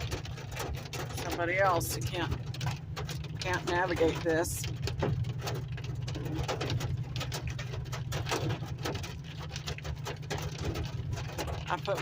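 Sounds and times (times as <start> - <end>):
engine and tyre rumble: 0.0 - 12.0
hail hitting vehicle: 0.0 - 12.0.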